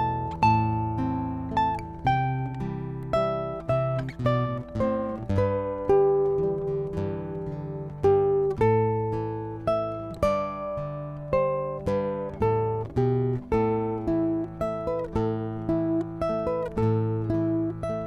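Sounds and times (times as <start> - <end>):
fingerpicked classical guitar: 0.0 - 18.0.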